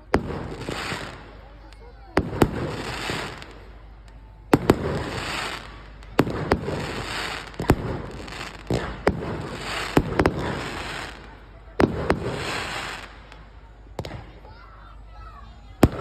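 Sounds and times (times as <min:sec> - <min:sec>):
fireworks bangs: 0:00.0 - 0:16.0
fireworks crackling fizz: 0:00.0 - 0:16.0.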